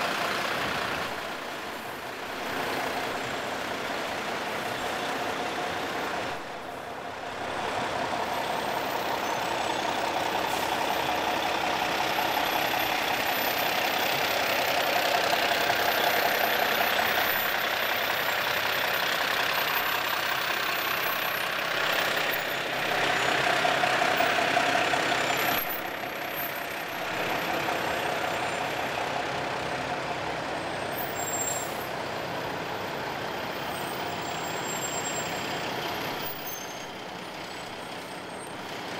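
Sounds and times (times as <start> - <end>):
fire truck engines rumbling: 0.0 - 38.9.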